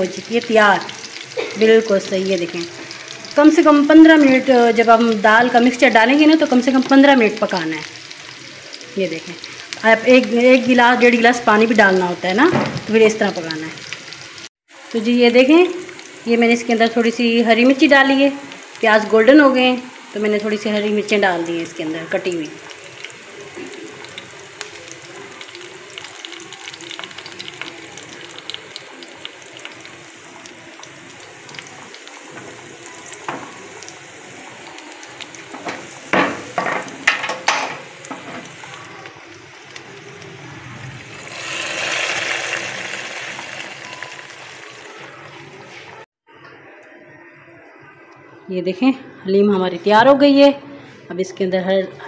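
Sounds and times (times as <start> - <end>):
onions sizzling in hot oil: 0.0 - 46.0.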